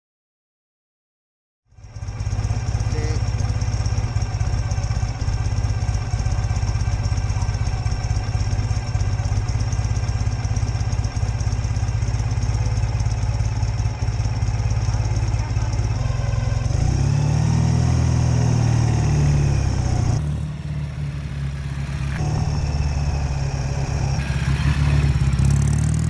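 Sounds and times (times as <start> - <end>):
motorcycle engine idling: 1.7 - 17.6, 18.2 - 26.0.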